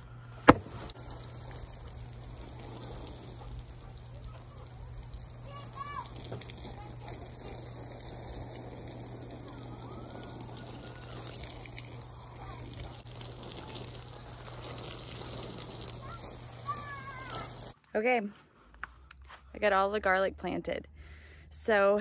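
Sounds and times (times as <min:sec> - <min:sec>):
water running from hose: 0:00.0 - 0:17.8.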